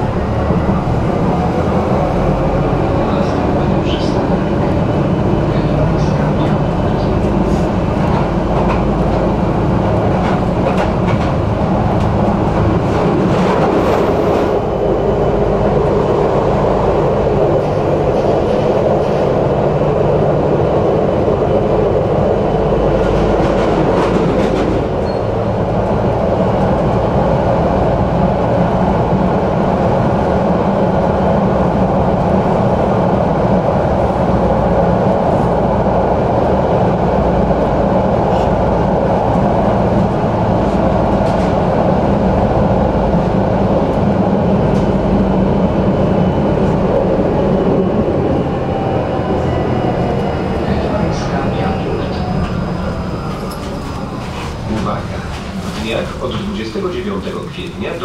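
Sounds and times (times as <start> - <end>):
tram wheel and rail rumble: 0.0 - 58.0.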